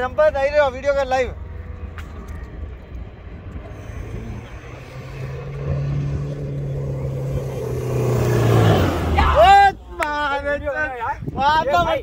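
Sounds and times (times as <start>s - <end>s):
engine pulling hard under load: 0.0s - 9.8s.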